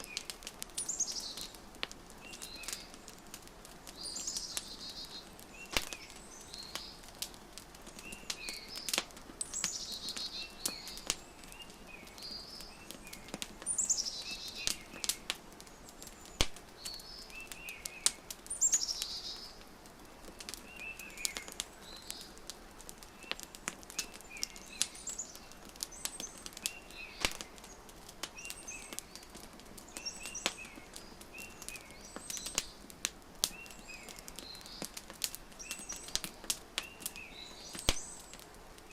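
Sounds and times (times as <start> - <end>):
birds trilling and chirping: 0.0 - 3.1, 3.8 - 38.5
wood fire crackling and popping: 0.0 - 38.9.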